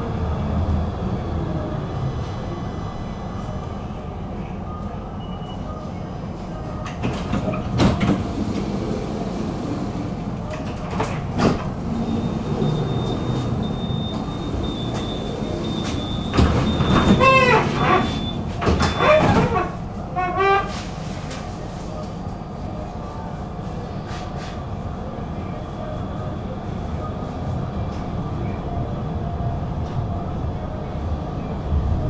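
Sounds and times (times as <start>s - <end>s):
tram rumbling on track: 0.0s - 32.0s.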